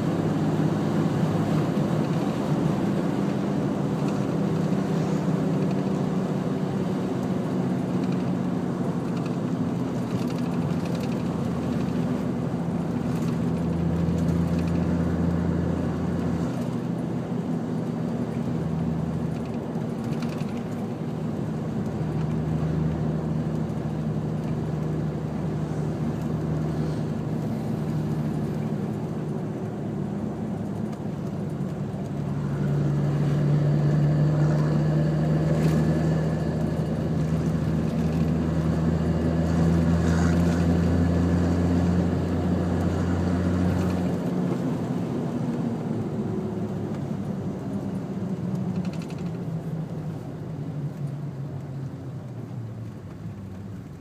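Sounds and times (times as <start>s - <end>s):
diesel engine running while driving: 0.0s - 54.0s.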